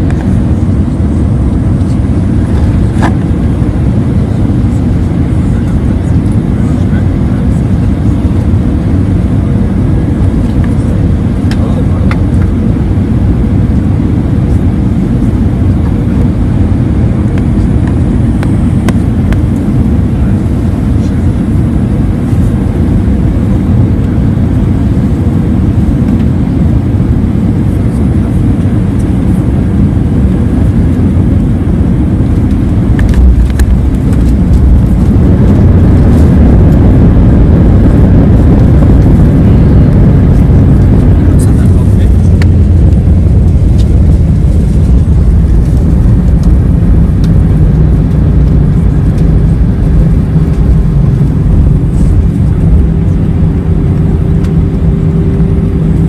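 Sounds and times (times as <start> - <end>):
engine and airflow rumble: 0.0 - 56.0.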